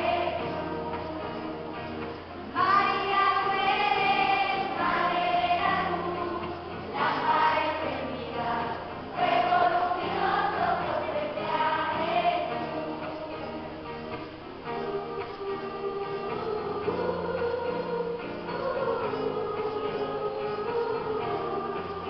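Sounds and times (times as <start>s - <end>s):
acoustic guitar: 0.0s - 22.0s
children's choir singing a hymn: 0.0s - 22.0s.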